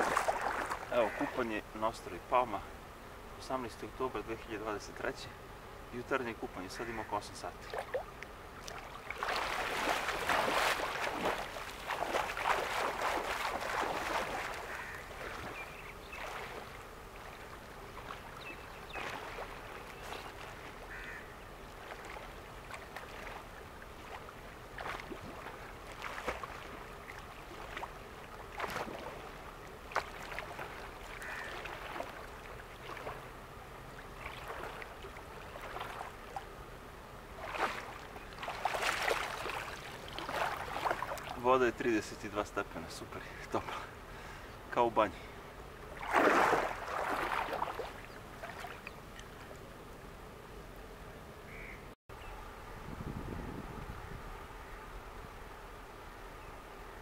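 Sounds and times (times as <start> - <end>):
seawater splashing and lapping: 0.0 - 51.0.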